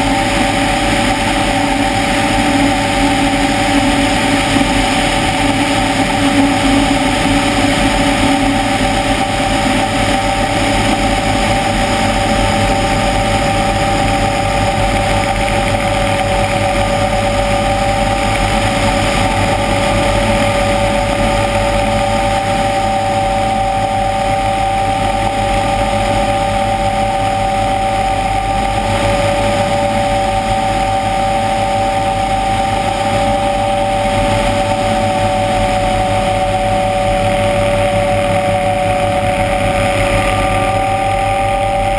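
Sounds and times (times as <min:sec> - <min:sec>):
helicopter engine and rotor drone: 0:00.0 - 0:41.9
whining tones: 0:00.0 - 0:41.9.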